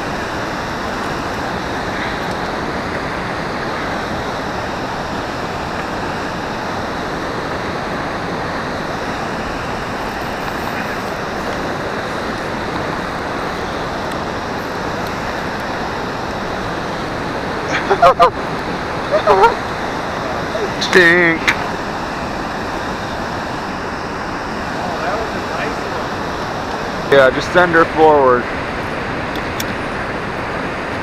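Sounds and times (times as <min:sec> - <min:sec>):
river water rushing: 0:00.0 - 0:31.0
wind: 0:00.0 - 0:31.0.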